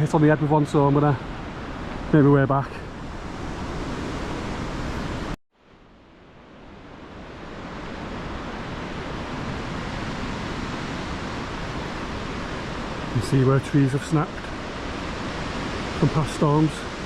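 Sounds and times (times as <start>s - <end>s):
strong wind through pine trees: 0.0s - 17.0s.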